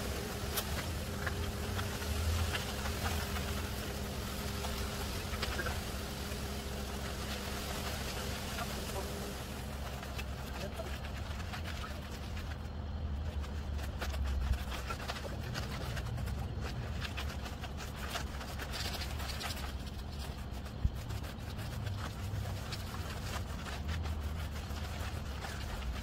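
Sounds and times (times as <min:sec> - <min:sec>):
hand tools scraping wet concrete: 0:00.0 - 0:26.0.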